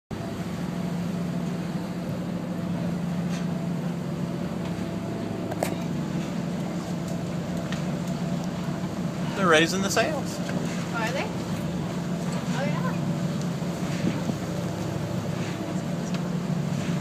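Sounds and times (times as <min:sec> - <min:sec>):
ship engine humming: 0:00.1 - 0:17.0.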